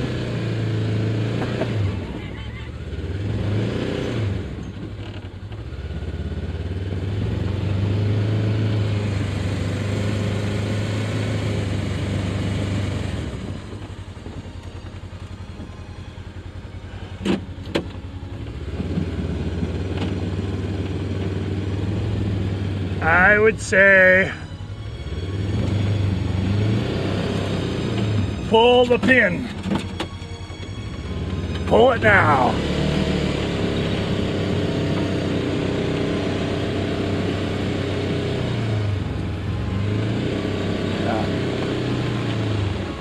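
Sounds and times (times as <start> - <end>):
utility vehicle engine revving: 0.0 - 43.0.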